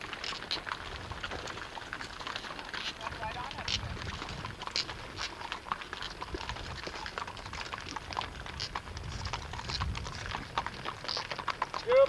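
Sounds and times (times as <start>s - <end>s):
cattle hooves on hard ground: 0.0s - 12.0s.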